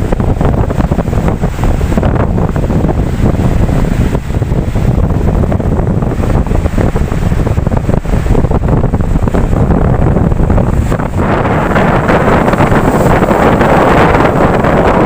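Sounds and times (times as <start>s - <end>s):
ocean waves washing on shore: 0.0s - 15.0s
wind buffeting microphone: 0.0s - 15.0s.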